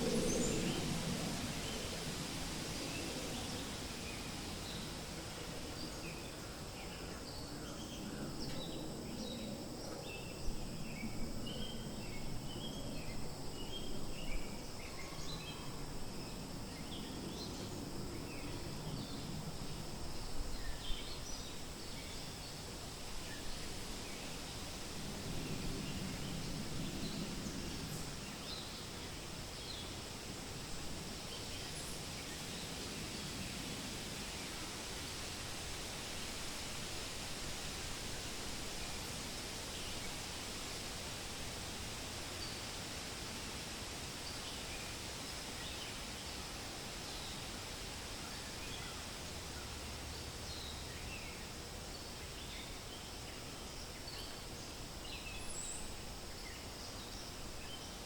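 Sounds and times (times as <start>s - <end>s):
wind rustling leaves: 0.0s - 58.0s.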